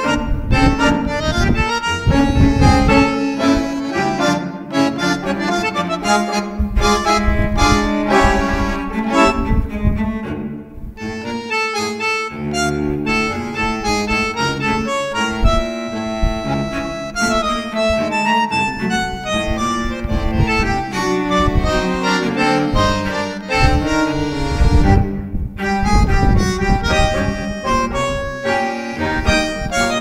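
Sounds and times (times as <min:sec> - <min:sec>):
instrumental music with bass line: 0:00.0 - 0:30.0.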